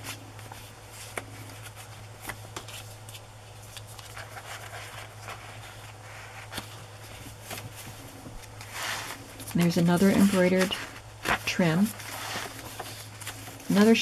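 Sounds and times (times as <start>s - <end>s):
paper rustling: 0.0s - 14.0s
steady low hum: 0.0s - 14.0s.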